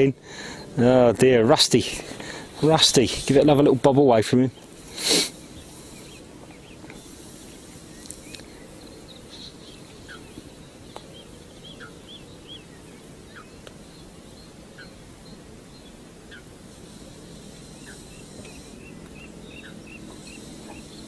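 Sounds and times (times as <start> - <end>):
birds chirping: 0.0 - 21.0
steady low hiss: 0.0 - 21.0.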